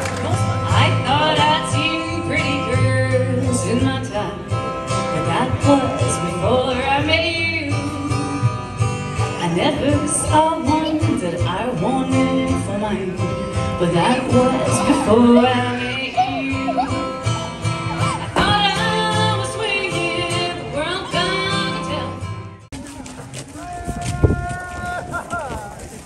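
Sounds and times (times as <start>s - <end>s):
person singing country song: 0.0s - 22.6s
strummed acoustic guitar: 0.0s - 23.2s.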